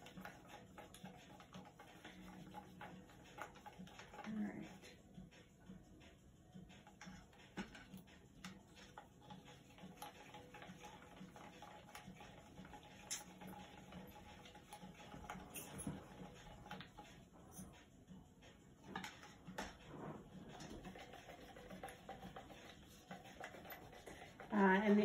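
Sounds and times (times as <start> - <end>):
stick stirring paint in plastic cup: 0.0 - 5.0, 6.7 - 17.2, 18.8 - 25.0.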